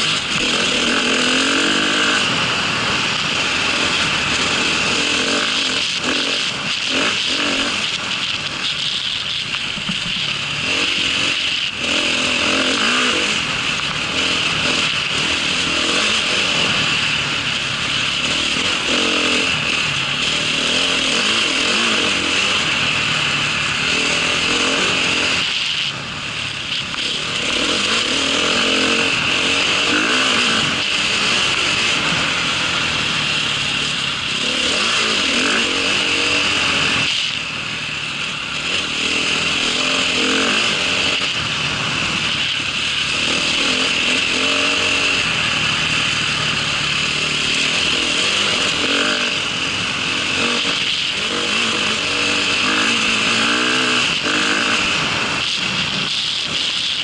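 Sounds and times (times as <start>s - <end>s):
off-road motorcycle engine: 0.0s - 57.0s.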